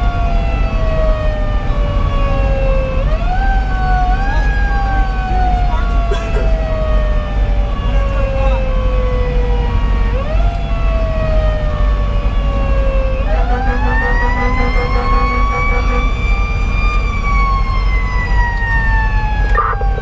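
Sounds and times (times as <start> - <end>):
truck diesel engine rumble: 0.0 - 20.0.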